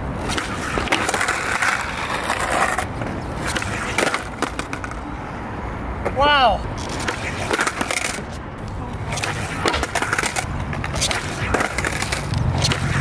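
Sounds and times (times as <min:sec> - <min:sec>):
skateboard wheels rolling on concrete: 0:00.0 - 0:13.0
skateboard clacking on ground: 0:00.2 - 0:05.1, 0:06.0 - 0:13.0.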